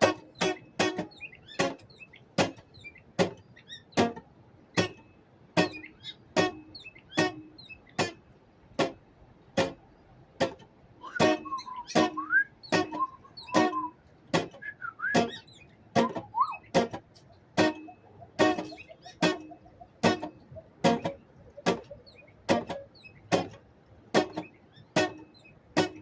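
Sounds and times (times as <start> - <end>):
acoustic guitar strumming: 0.0 - 8.2, 8.8 - 9.0, 9.6 - 9.8, 10.4 - 26.0
bird chirping: 0.0 - 8.2, 11.0 - 23.6, 24.2 - 26.0.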